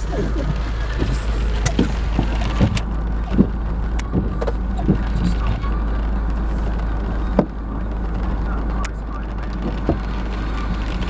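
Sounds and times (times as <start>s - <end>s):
hail knocking on car: 0.0s - 11.0s
heavy rain on car roof: 0.0s - 11.0s.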